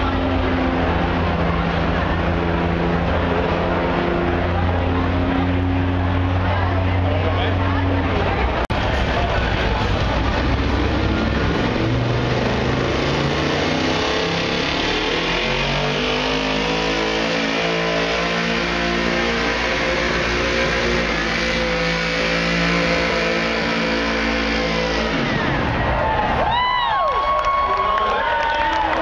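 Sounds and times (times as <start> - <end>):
truck engine revving high: 0.0 - 29.0.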